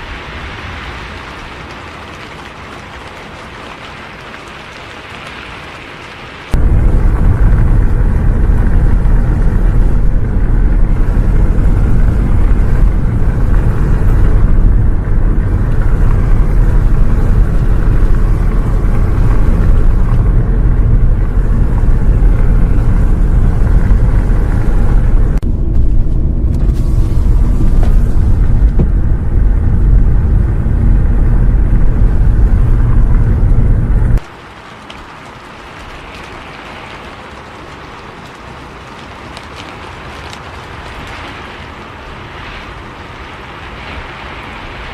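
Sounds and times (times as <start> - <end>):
bus engine and road rumble: 0.0 - 44.9
rain hiss: 0.0 - 44.9.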